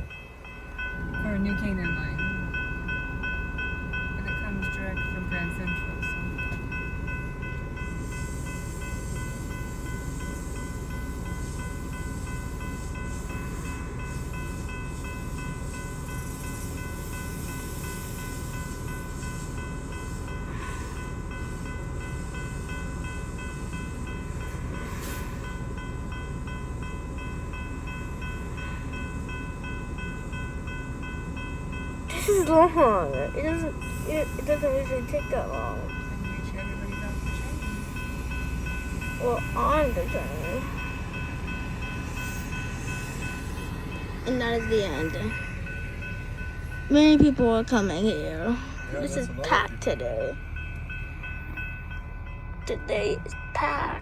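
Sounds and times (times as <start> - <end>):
train equipment low rumble: 0.0 - 54.0.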